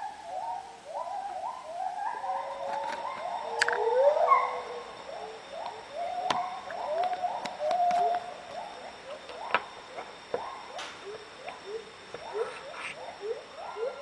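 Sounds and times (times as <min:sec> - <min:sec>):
gibbons hooting: 0:00.0 - 0:14.0.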